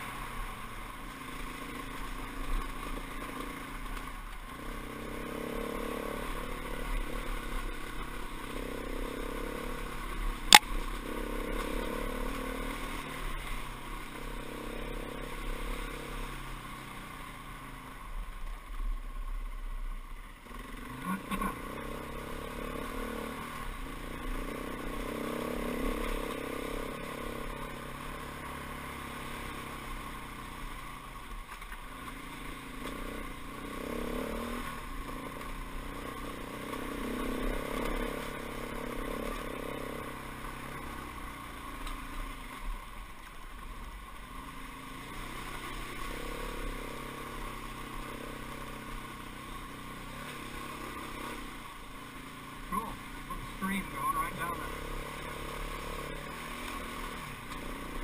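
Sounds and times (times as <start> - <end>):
dirt bike engine revving: 0.0 - 17.6, 20.4 - 42.6, 44.4 - 58.0.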